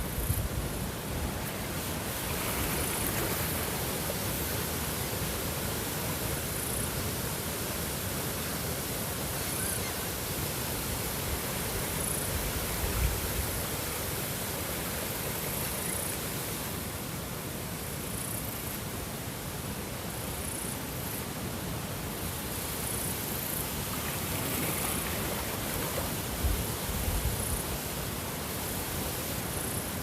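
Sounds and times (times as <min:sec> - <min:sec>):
water rushing: 0:00.8 - 0:17.0, 0:21.5 - 0:30.0.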